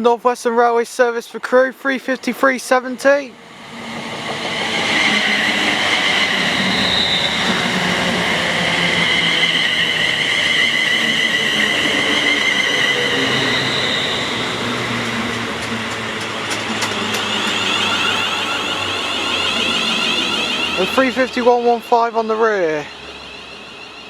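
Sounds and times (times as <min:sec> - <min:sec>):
electric train rumble: 0:01.3 - 0:24.0
wavering high-pitched whine: 0:02.7 - 0:24.0.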